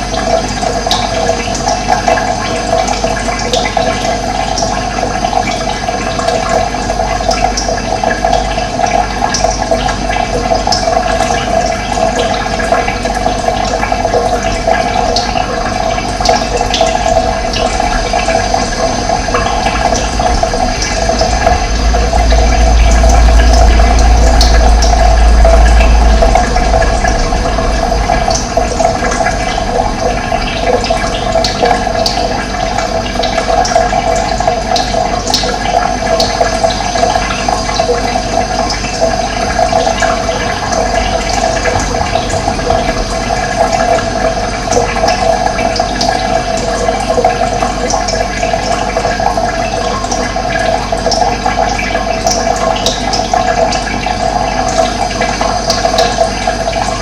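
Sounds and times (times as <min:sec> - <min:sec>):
running water flowing: 0:00.0 - 0:57.0.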